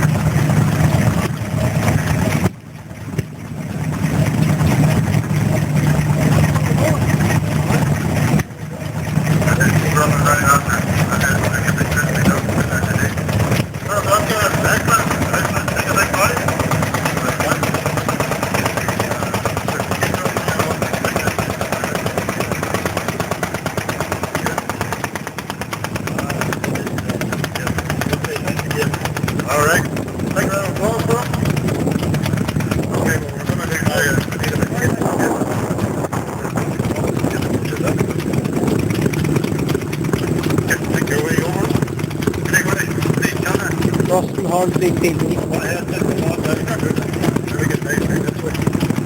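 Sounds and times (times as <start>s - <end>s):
stationary engine running: 0.0s - 49.0s.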